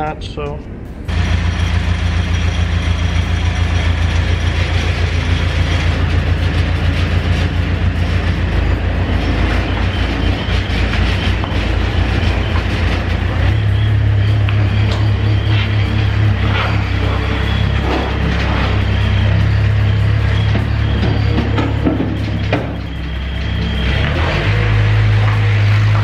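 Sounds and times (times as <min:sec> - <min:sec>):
skid steer engine drone: 0:00.9 - 0:26.0
mechanical clatter: 0:01.0 - 0:26.0.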